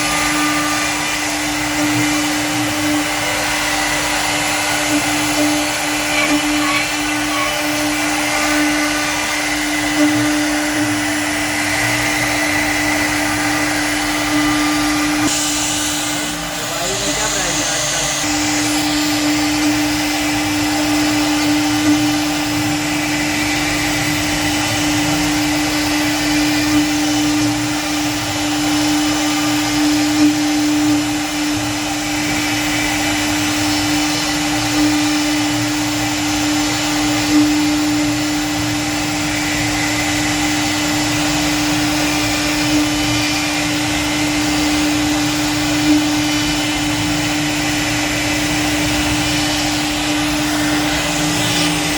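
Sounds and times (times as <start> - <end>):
bit cutting wood: 0.0 - 51.9
router spindle motor whine: 0.0 - 51.9.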